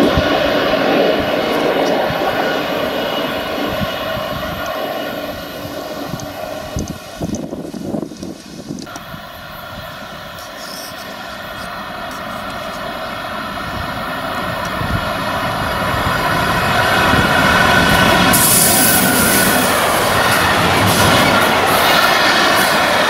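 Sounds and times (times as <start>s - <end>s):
electric locomotive whine: 0.0s - 23.0s.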